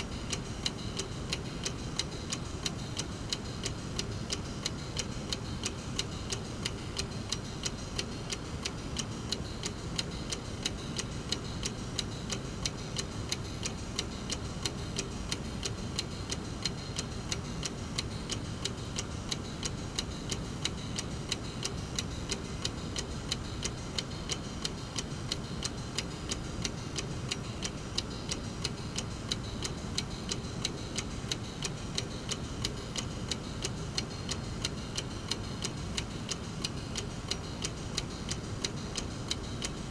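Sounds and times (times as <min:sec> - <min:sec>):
mechanical clock ticking: 0:00.0 - 0:39.9.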